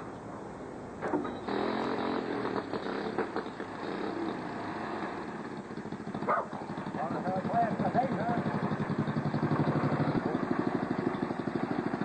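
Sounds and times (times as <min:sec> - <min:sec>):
go-kart engine running: 0:01.2 - 0:12.0.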